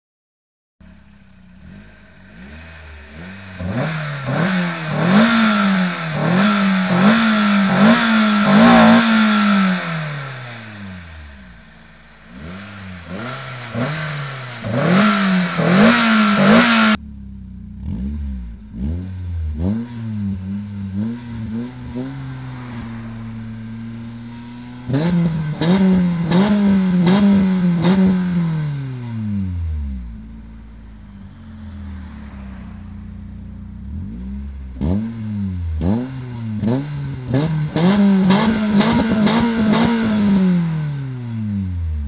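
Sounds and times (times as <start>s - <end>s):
car engine revving from idle: 0.8s - 42.0s.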